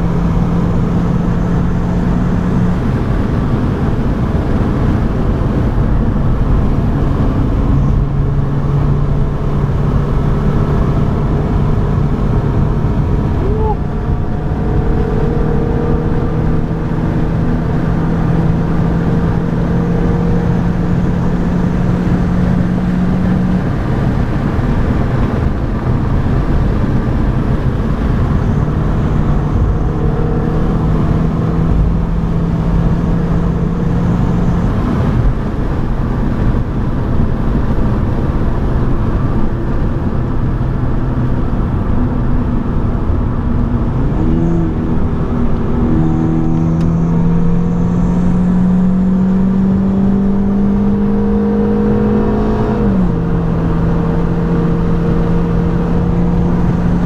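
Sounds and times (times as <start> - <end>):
car engine running hard: 0.0 - 57.0
road and tyre rumble: 0.0 - 57.0.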